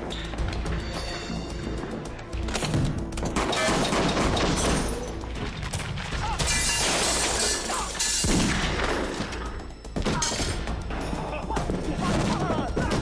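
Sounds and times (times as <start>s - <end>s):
film score music: 0.0s - 13.0s.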